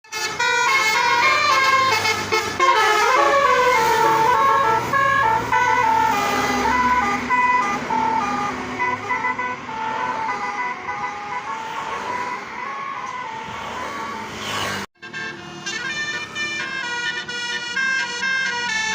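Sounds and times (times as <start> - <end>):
multi-tone bus air horn melody: 0.0 - 18.9
sliding siren-like wail: 0.3 - 18.9.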